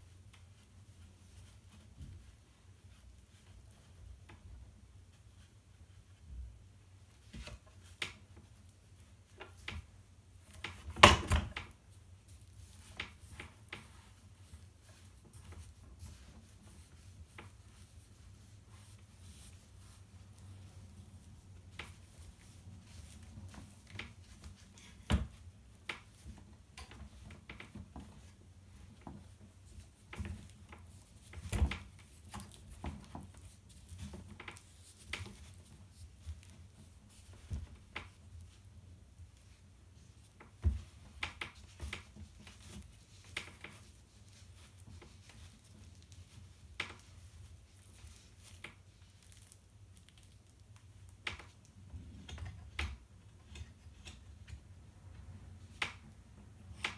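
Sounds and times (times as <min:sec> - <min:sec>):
hands rustling fabric: 0:00.0 - 0:56.9.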